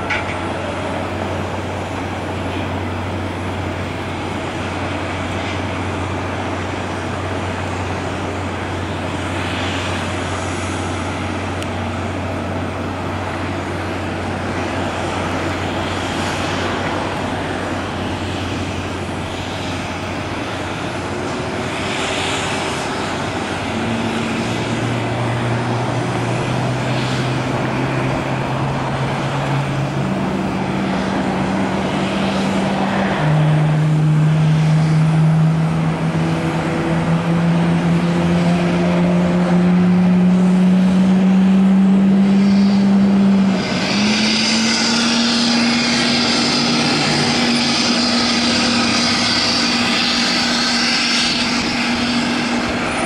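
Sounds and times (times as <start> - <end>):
jet engine rushing: 0.0 - 53.0
low hum: 0.0 - 53.0.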